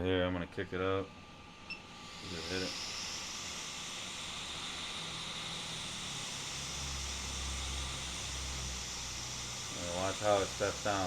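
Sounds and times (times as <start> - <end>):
hot air blower hissing: 0.9 - 11.0.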